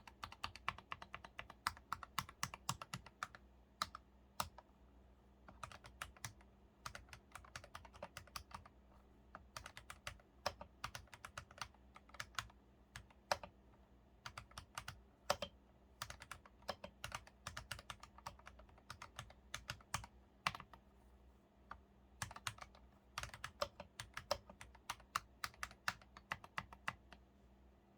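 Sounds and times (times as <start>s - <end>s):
mechanical keyboard typing: 0.0s - 4.6s, 5.5s - 8.7s, 9.4s - 13.6s, 14.2s - 20.8s, 21.7s - 27.2s.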